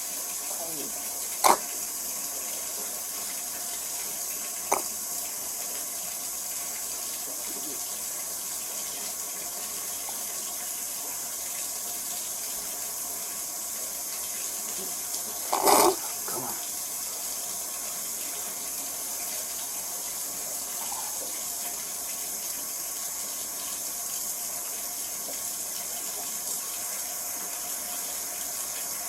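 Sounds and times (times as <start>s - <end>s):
running water hiss: 0.0s - 29.0s.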